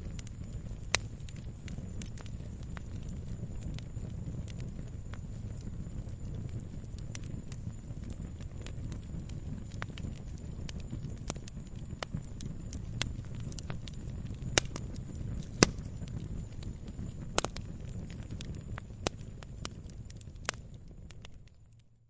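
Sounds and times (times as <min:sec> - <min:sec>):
logs crackling and popping: 0:00.0 - 0:21.9
rumble of flames: 0:00.0 - 0:22.0.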